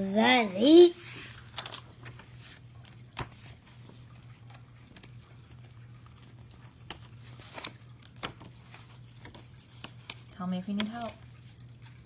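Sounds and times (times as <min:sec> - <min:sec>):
low steady hum: 0:00.0 - 0:12.0
paper page rustling: 0:01.0 - 0:12.0.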